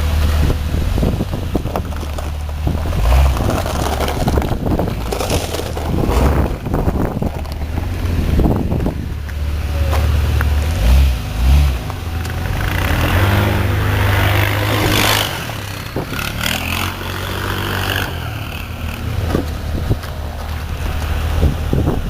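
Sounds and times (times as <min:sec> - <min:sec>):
car engine revving: 0:00.0 - 0:22.0
tyres and body rattling: 0:00.2 - 0:22.0.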